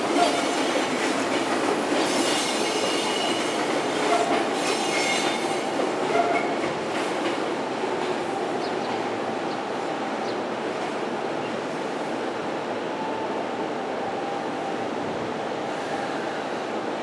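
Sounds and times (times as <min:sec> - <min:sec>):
train rail running noise: 0:00.0 - 0:17.0.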